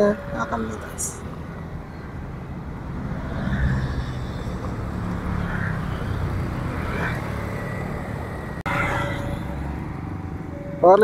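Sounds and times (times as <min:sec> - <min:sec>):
vehicle engine passing by: 0:00.8 - 0:10.7.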